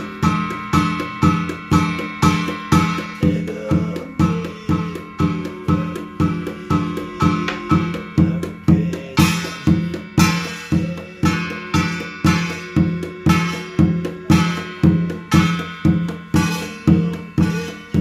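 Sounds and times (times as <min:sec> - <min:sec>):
bright cymbal clash: 0:00.0 - 0:08.5, 0:09.1 - 0:18.0
drum beating: 0:00.0 - 0:18.0
reedy pipe notes: 0:00.0 - 0:18.0.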